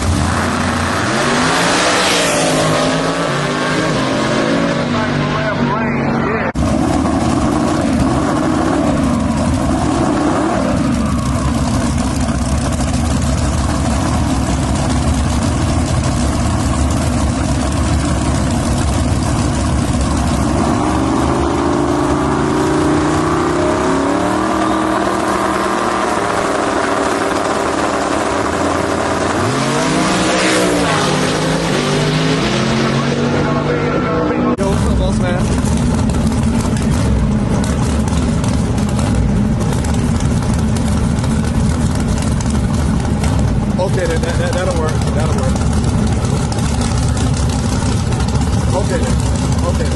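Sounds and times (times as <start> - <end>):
race vehicle engine running: 0.0 - 49.9.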